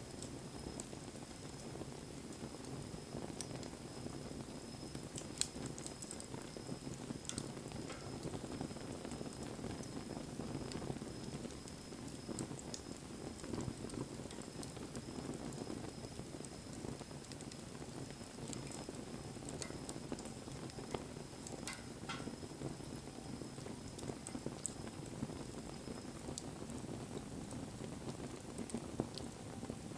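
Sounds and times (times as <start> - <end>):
bonfire flames rushing: 0.0 - 29.9
burning wood crackling and popping: 0.0 - 29.9.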